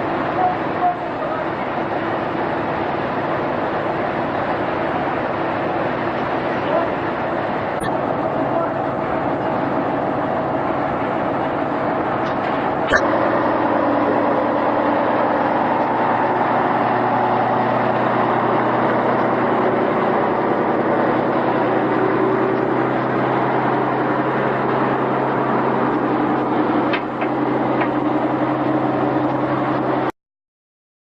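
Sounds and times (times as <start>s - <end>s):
large engine humming: 0.0s - 30.1s.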